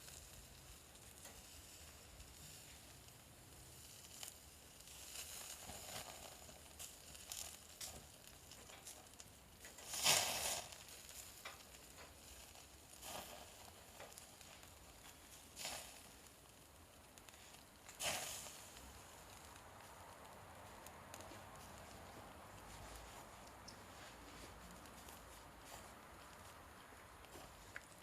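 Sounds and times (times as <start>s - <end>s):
fire crackles: 0.0s - 28.0s
wood fire hissing: 0.0s - 28.0s.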